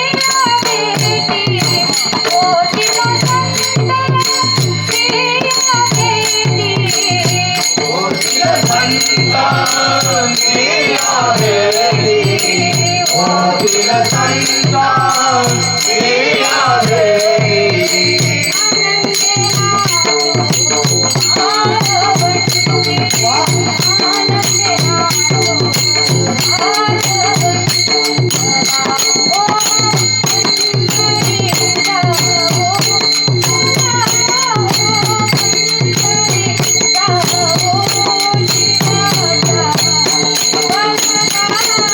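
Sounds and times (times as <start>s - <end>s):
girl singing devotional song: 0.0s - 41.9s
percussion steady beat: 0.0s - 41.9s.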